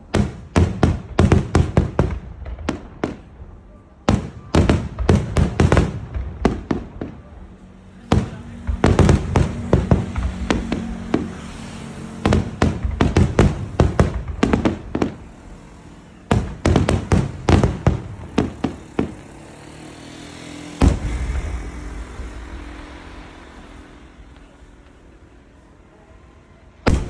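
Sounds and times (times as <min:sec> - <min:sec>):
fireworks boom with rumble: 0:00.0 - 0:20.0, 0:20.6 - 0:25.9
fireworks bangs: 0:00.0 - 0:27.0.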